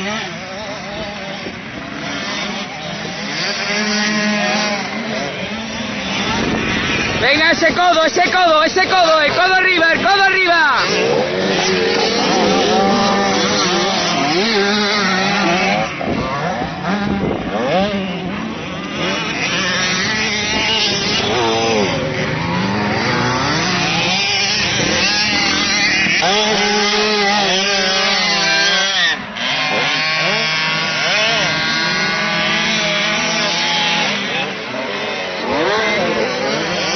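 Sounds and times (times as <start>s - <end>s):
motocross bikes revving: 0.0s - 36.9s
steady engine note: 0.0s - 36.9s.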